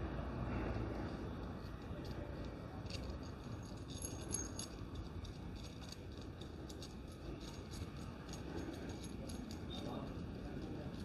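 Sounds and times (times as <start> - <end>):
low background rumble: 0.0 - 11.0
small metal parts clinking: 0.4 - 11.0
washers rattling on a bolt: 0.7 - 11.0.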